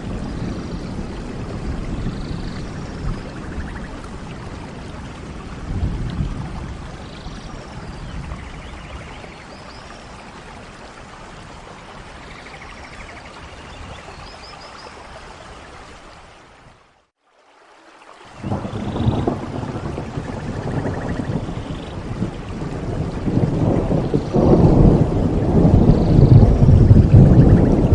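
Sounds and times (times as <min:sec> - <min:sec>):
rain falling: 0:00.0 - 0:27.9.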